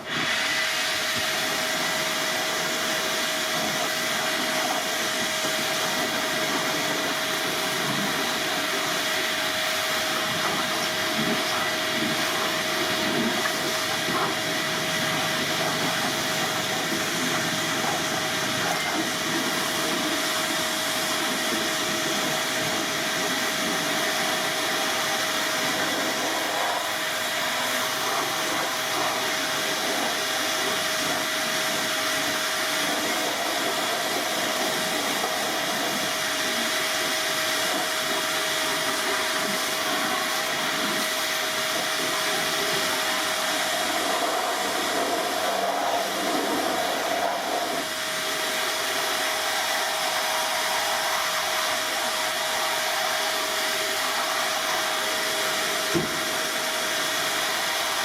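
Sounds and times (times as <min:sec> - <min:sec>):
air machine rushing and whining: 0:00.0 - 0:58.0.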